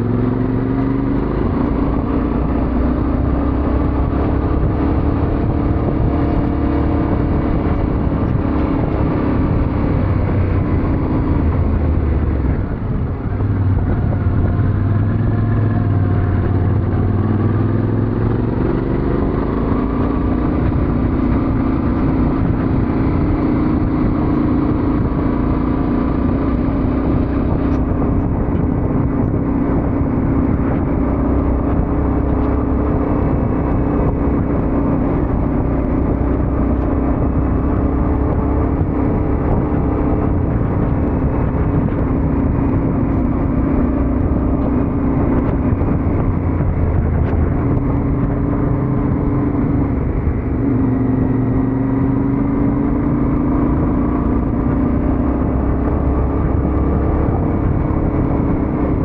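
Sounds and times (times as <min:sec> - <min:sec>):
motorcycle engine running: 0:00.0 - 0:59.0
wind rushing: 0:00.0 - 0:59.0.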